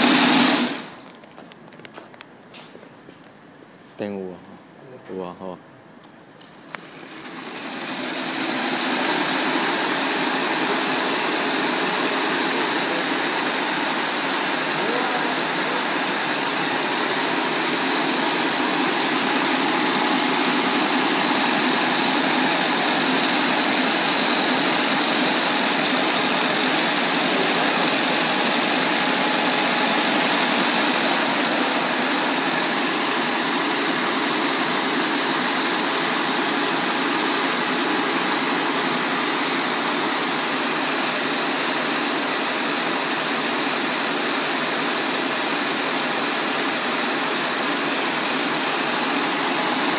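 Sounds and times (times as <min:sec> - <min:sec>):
braiding machine running: 0:00.0 - 0:01.1, 0:06.6 - 0:49.9.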